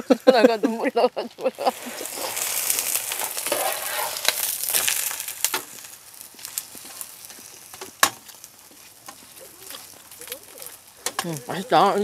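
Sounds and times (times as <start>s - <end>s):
pancake sizzling in oil: 0.0s - 12.0s.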